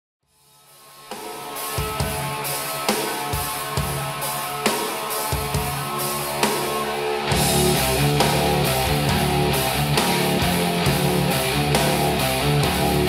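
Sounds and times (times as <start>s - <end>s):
music with drums and guitar: 0.3s - 13.0s.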